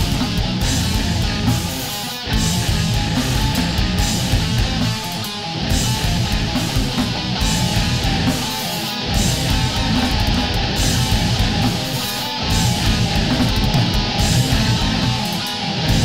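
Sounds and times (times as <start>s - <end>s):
death metal guitars and bass: 0.0s - 16.0s.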